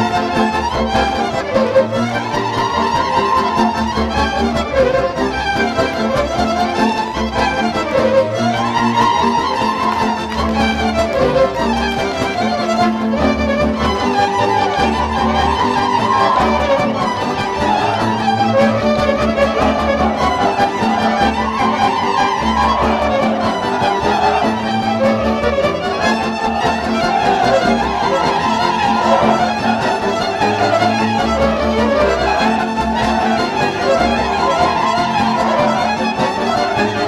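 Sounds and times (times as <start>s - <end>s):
fiddle melody: 0.0s - 37.0s.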